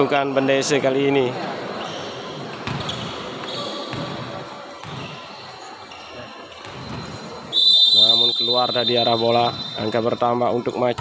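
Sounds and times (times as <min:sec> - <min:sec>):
crowd noise in hall: 0:00.0 - 0:11.0.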